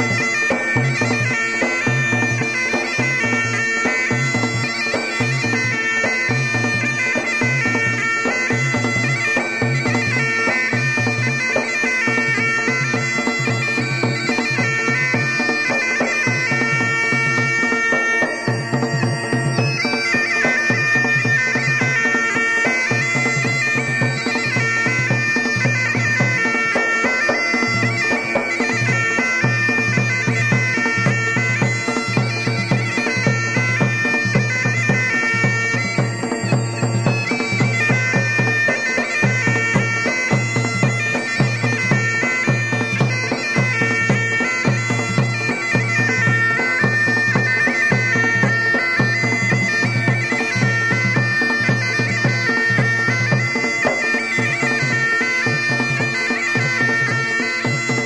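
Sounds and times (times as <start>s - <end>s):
bagpipe melody over drone: 0.0s - 58.0s
drum beating evenly: 0.0s - 58.0s.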